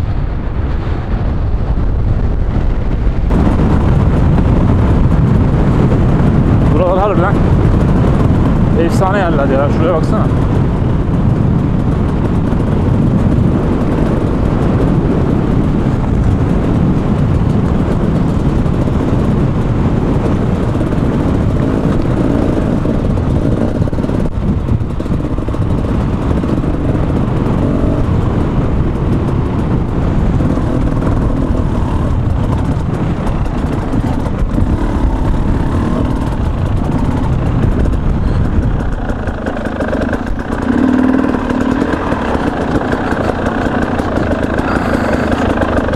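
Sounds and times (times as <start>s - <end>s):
wind on microphone: 0.0s - 45.9s
two-stroke motorcycle engine: 3.3s - 45.9s.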